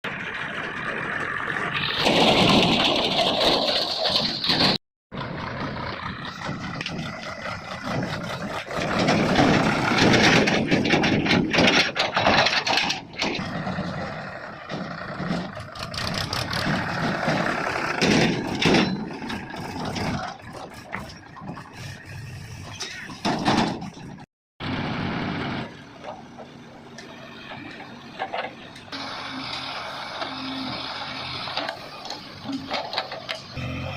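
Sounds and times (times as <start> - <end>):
diesel engines running: 0.0 - 33.9.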